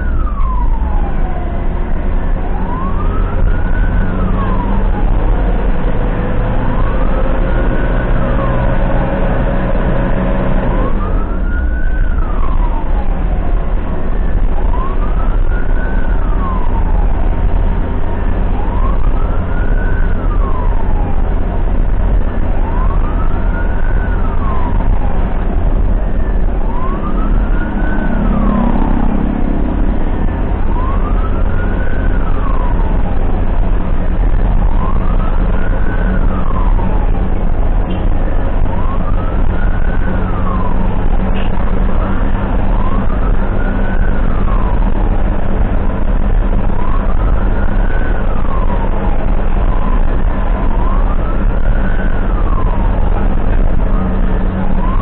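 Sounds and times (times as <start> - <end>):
ambulance siren wailing: 0.0 - 55.0
vehicle engine and road noise: 0.0 - 55.0.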